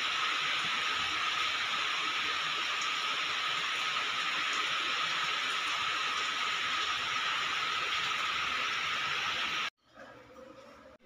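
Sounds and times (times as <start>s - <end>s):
chicken frying in hot oil: 0.0s - 9.7s.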